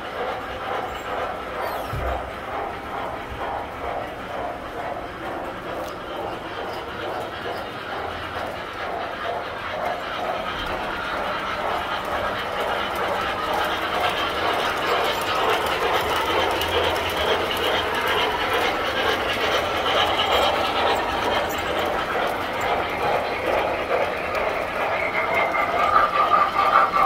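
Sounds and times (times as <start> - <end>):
fine clicking of train wheels: 0.0 - 27.0
model trains whirring on track: 0.0 - 27.0.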